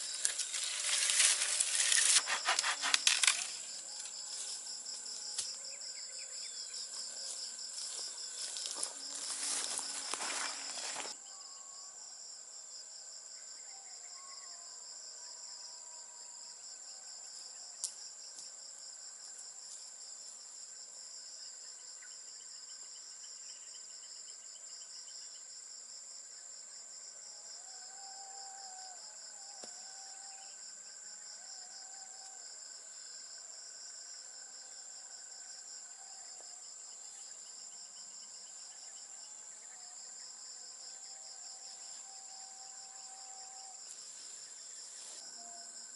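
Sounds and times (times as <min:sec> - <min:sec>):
insects whining and trilling: 0:00.0 - 0:45.9.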